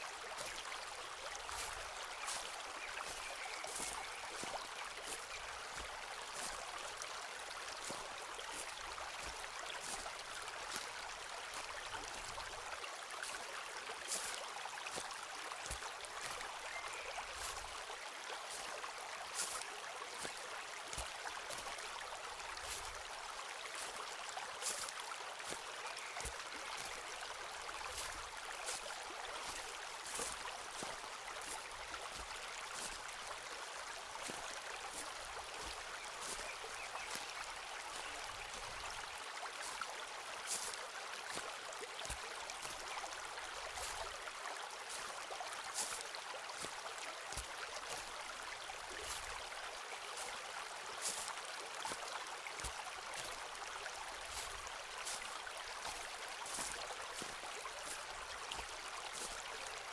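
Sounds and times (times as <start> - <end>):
stream rushing: 0.0 - 59.9
footsteps on forest path: 0.1 - 59.9.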